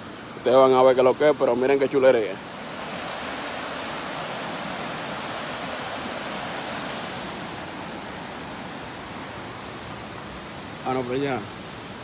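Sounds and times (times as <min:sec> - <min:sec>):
stream water rushing over rocks: 0:00.0 - 0:12.0.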